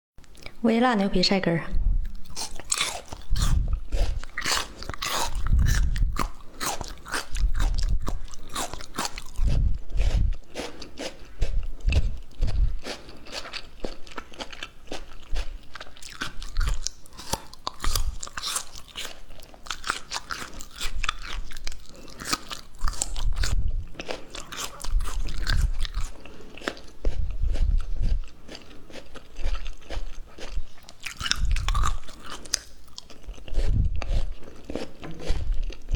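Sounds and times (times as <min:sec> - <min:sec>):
person chewing crunchy food: 0:01.9 - 0:35.9.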